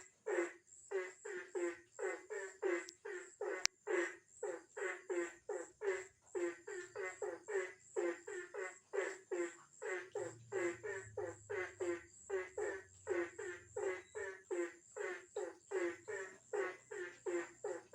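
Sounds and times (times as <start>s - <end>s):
frog croaking: 0.0s - 17.9s
insects buzzing: 0.0s - 17.9s.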